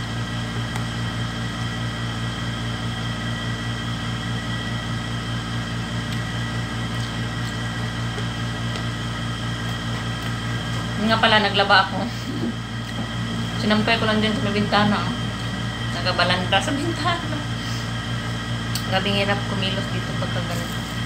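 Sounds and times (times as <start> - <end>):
mechanical hum with low drone: 0.0 - 21.0.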